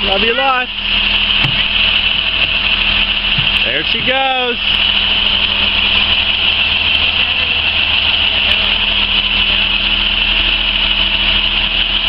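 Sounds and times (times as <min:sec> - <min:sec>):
high-pitched drone: 0:00.0 - 0:11.5
bus engine idling: 0:00.0 - 0:12.0.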